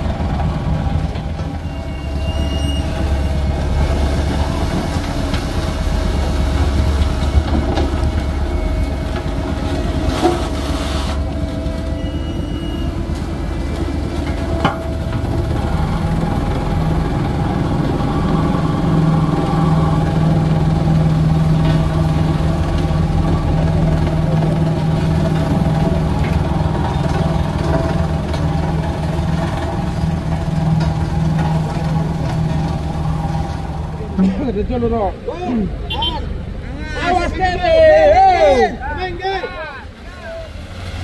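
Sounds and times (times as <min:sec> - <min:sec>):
truck engine low drone: 0:00.0 - 0:41.0.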